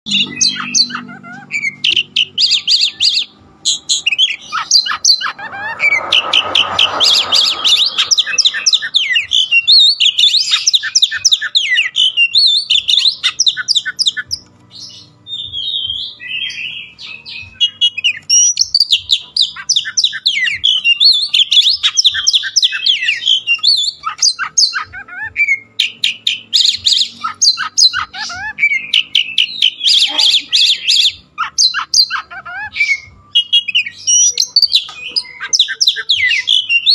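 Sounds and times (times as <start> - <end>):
songbird singing trills: 0.1 - 36.9.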